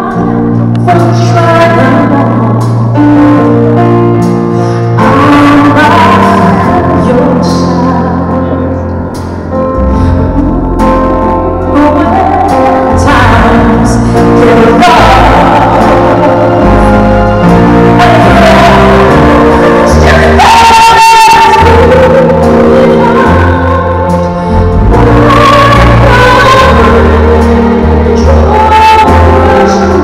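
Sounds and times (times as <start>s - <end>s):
woman singing: 0.0s - 3.9s, 5.0s - 9.0s, 10.3s - 30.0s
live pop band playing: 0.0s - 30.0s.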